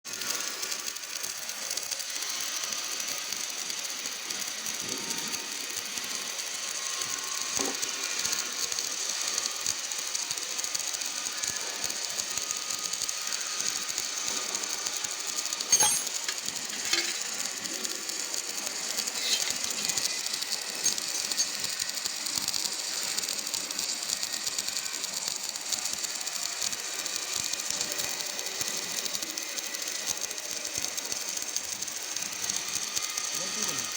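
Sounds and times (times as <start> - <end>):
welding machine crackling hiss: 0.1 - 33.9.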